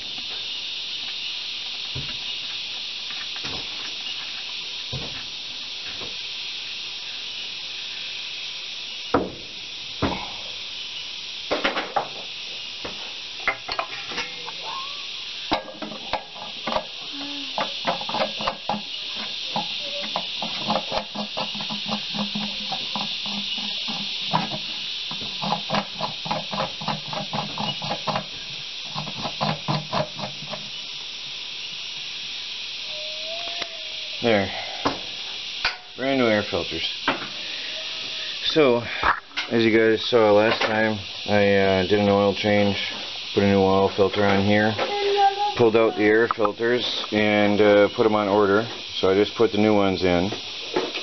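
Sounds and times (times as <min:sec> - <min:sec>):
steady high hiss: 0:00.0 - 0:51.0.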